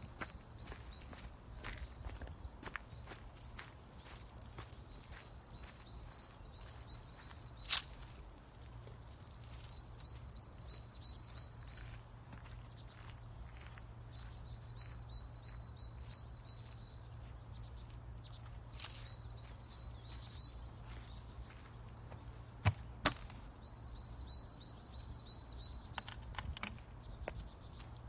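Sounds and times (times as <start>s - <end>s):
footsteps on dirt path: 0.0s - 23.8s
small birds chirping: 0.0s - 28.0s.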